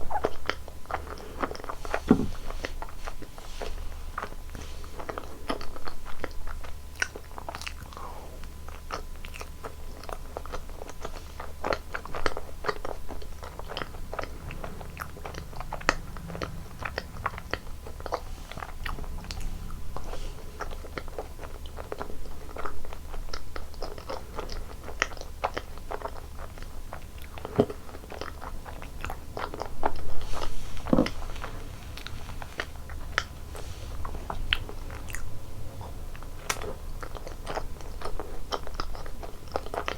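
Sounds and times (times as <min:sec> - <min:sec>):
chewing frozen dessert: 0:00.0 - 0:39.9.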